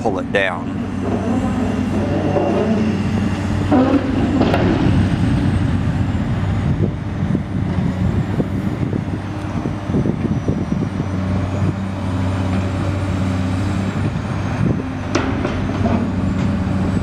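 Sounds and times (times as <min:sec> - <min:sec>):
diesel excavator engine running: 0:00.0 - 0:17.0.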